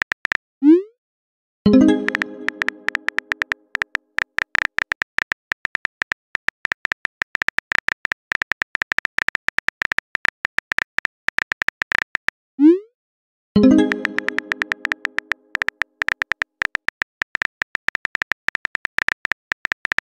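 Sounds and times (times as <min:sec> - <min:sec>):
phone keyboard clicks: 0:00.0 - 0:00.4, 0:01.8 - 0:12.3, 0:13.6 - 0:20.0.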